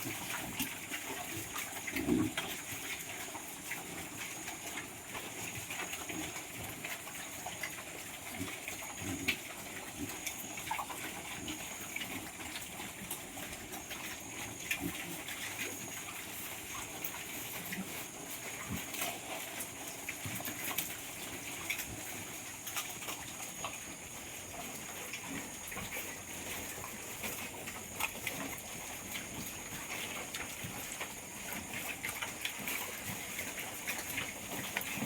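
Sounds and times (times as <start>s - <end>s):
piglets eating feed: 0.0s - 35.0s.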